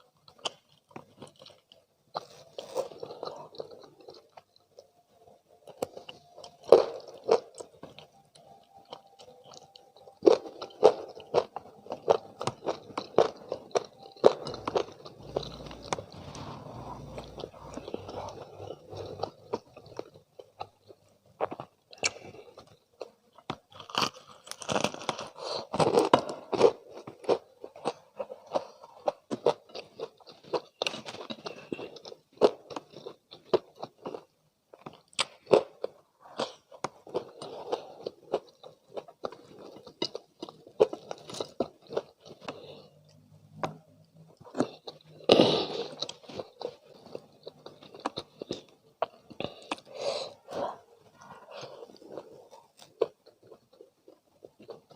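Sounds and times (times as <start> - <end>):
chewing crispy fried chicken: 0.0 - 54.9.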